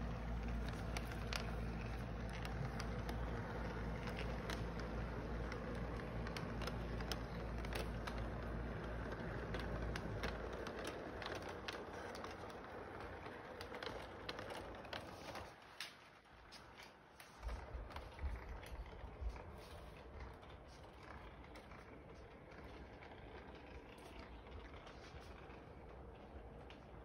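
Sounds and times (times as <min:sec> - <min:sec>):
model train rumbling: 0:00.0 - 0:27.0
wheels clicking over rail joints: 0:00.0 - 0:27.0.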